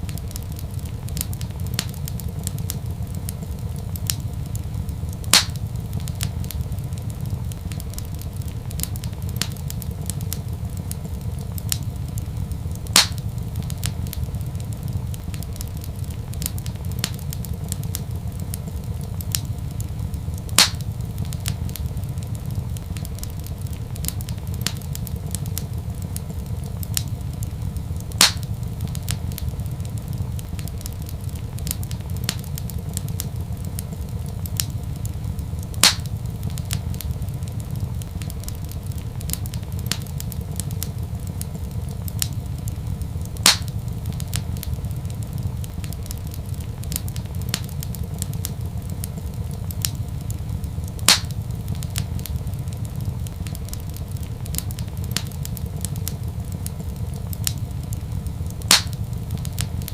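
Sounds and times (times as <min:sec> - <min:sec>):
loud fire pops: 0:00.0 - 0:59.9
low fire rumble: 0:00.0 - 0:59.9
wood fire crackling: 0:00.0 - 0:59.9.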